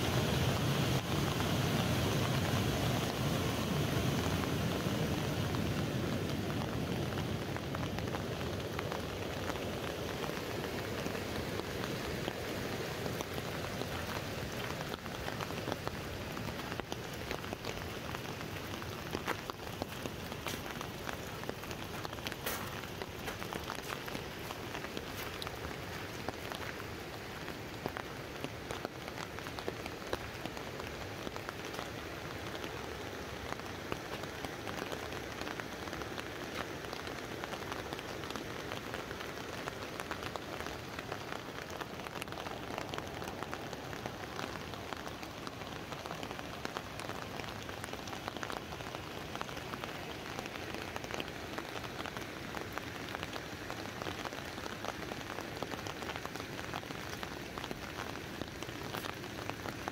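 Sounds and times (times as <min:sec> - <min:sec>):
rain on an umbrella: 0:00.0 - 0:59.9.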